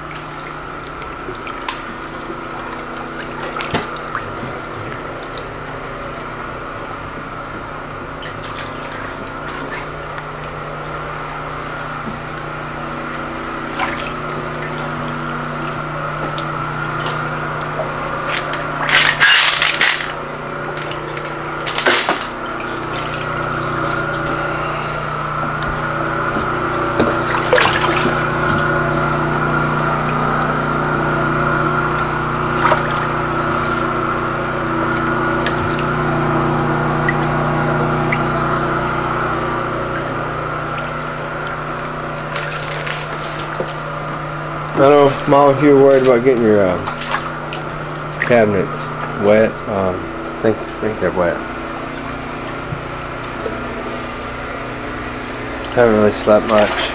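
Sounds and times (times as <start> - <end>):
steady hum: 0.0 - 56.9
water sloshing and splashing: 0.0 - 56.9.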